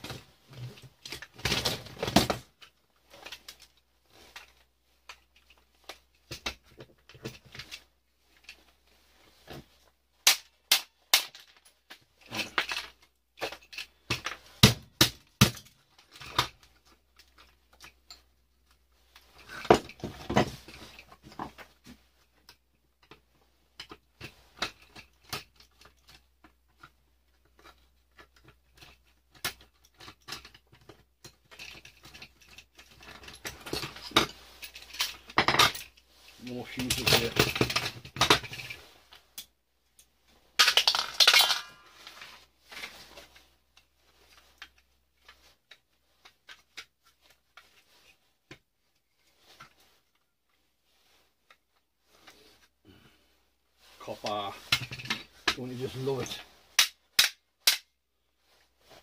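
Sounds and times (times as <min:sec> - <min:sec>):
plastic parts and tools clattering: 0:00.0 - 0:52.8, 0:53.8 - 0:59.0.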